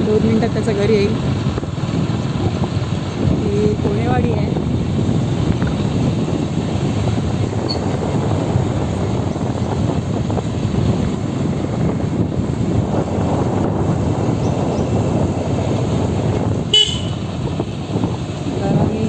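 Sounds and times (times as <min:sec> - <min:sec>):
vehicle rumbling along road: 0:00.0 - 0:19.0
wind buffeting microphone: 0:00.0 - 0:19.0.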